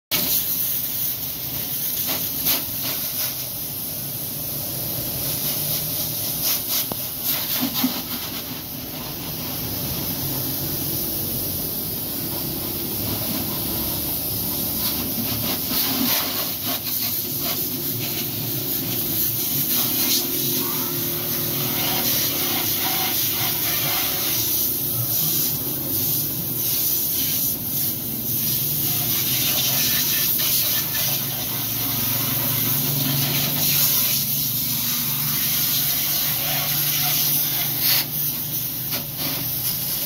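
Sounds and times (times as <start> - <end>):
water jet spraying car: 0.1 - 40.0.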